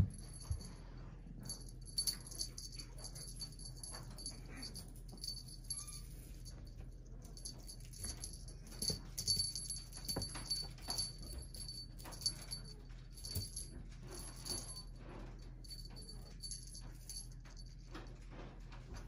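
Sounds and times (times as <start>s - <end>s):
small jingle bell jingling: 0.0s - 17.9s.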